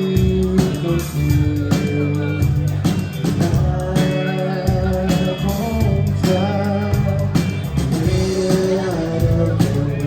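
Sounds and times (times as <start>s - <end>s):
rock band playing: 0.0s - 10.0s.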